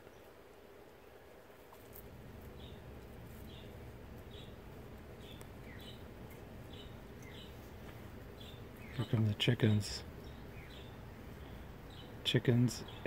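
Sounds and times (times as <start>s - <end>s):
faint low hum: 0.0s - 13.0s
turkey chicks peeping: 1.0s - 13.0s.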